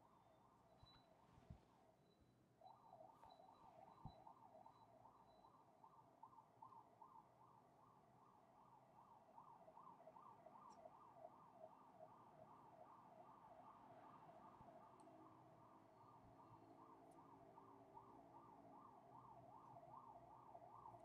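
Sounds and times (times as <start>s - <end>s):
faint siren yelping: 2.6s - 21.0s.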